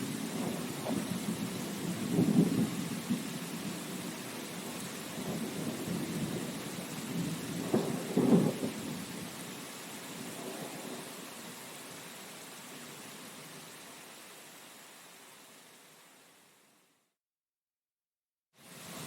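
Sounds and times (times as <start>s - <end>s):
steady rain hiss: 0.0s - 17.2s, 18.6s - 19.0s.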